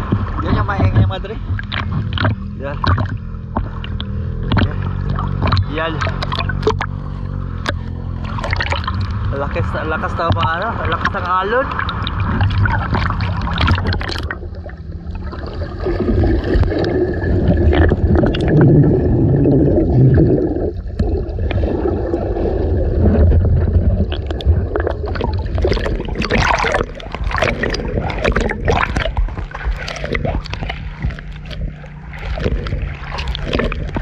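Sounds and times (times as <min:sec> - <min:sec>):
seawater sloshing and gurgling: 0:00.0 - 0:34.0
sharp water splashes: 0:00.0 - 0:34.0.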